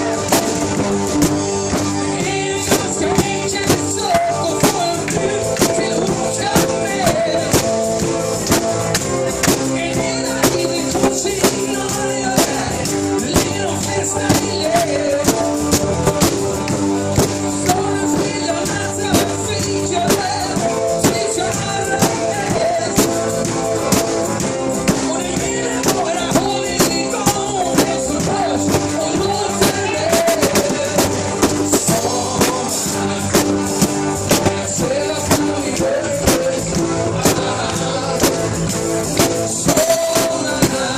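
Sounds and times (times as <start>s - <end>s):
acoustic guitar: 0.0s - 40.9s
steady drum beat: 0.0s - 40.9s
person singing: 1.9s - 8.2s, 9.0s - 23.4s, 24.7s - 40.9s.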